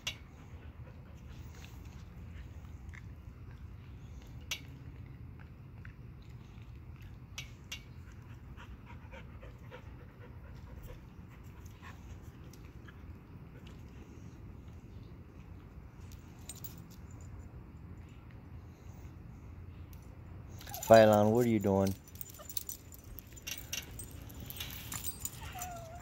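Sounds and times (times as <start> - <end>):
dogs panting: 0.0 - 15.5, 20.6 - 26.0.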